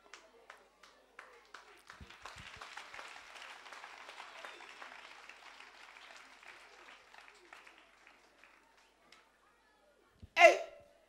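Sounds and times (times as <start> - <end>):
faint applause: 0.0 - 10.0.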